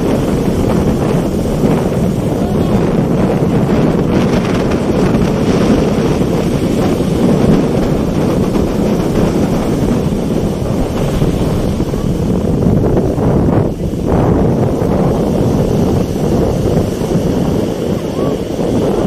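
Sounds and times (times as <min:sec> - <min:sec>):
surf breaking on shore: 0:00.0 - 0:19.0
wind blowing across microphone: 0:00.0 - 0:19.0.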